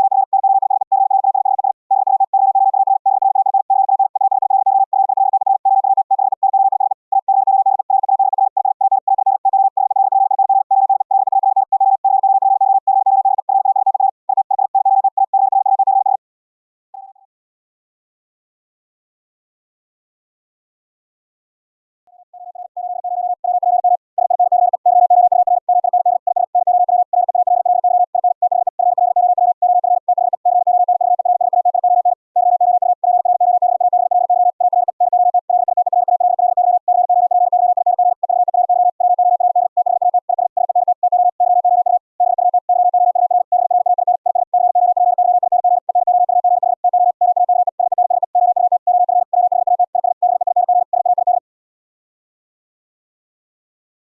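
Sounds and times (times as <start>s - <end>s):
fast morse code tone: 0.0s - 16.2s, 22.2s - 51.4s.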